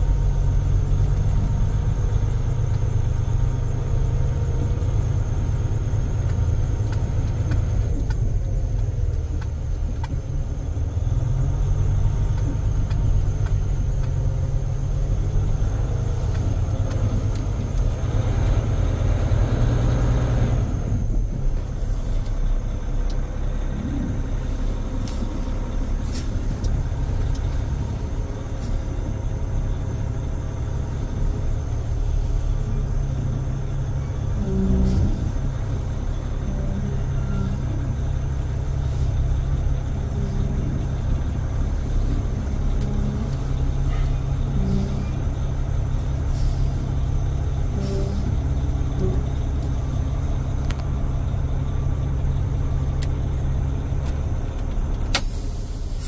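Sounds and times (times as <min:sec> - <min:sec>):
diesel truck engine drone: 0:00.0 - 0:56.0.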